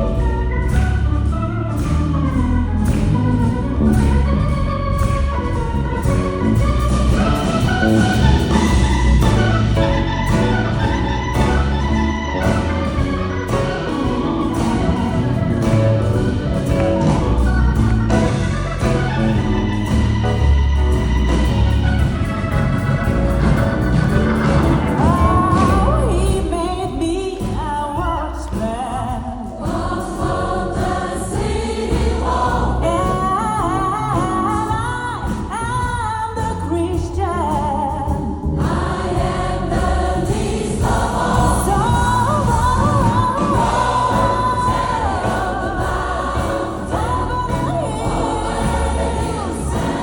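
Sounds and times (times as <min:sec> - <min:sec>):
gospel choir singing: 0:00.0 - 0:26.7, 0:28.3 - 0:35.4, 0:38.4 - 0:50.0
bass guitar: 0:00.0 - 0:50.0
drums: 0:00.0 - 0:50.0.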